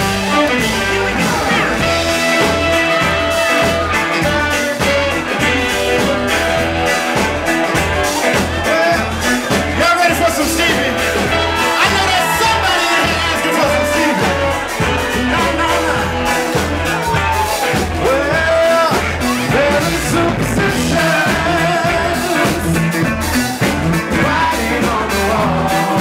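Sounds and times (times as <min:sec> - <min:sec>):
bass guitar: 0:00.0 - 0:26.0
drums with steady beat: 0:00.0 - 0:26.0
electric guitar: 0:00.0 - 0:26.0
person singing: 0:00.0 - 0:26.0.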